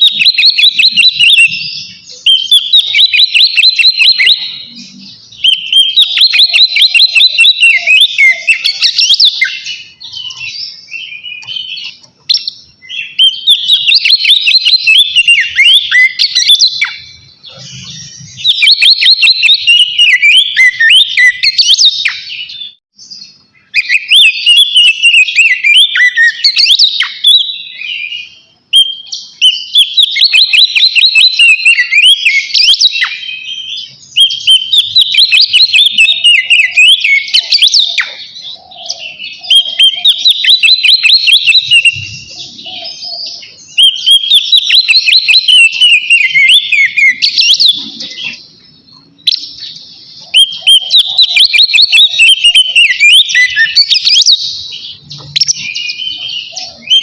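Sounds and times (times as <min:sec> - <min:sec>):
bird whistled song: 0:00.0 - 0:57.0.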